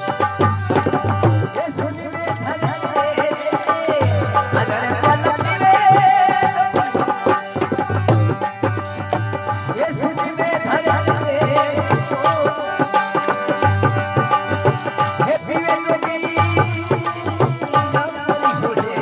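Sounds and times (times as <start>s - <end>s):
fast drum rhythm: 0.0s - 19.0s.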